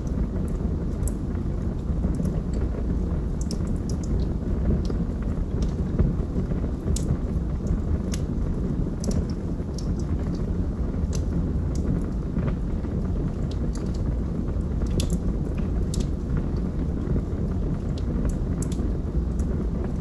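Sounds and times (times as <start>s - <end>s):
fire crackling and snapping: 0.0s - 20.0s
low rumble of flames: 0.0s - 20.0s.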